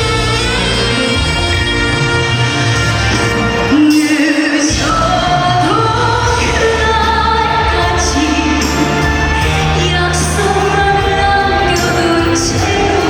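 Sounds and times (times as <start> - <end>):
woman singing: 0.0 - 2.7, 3.5 - 13.0
band accompaniment: 0.0 - 13.0.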